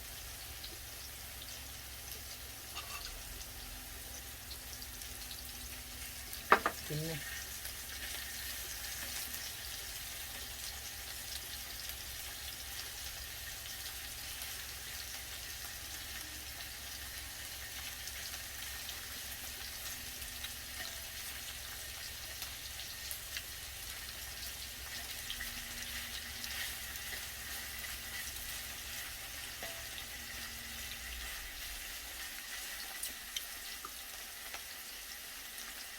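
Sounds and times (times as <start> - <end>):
beef sizzling in a pan: 0.0 - 35.9.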